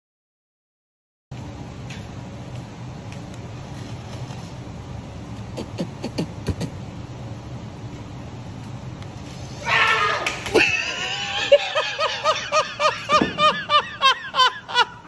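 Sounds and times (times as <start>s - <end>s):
low hum of shop interior: 1.3s - 15.0s.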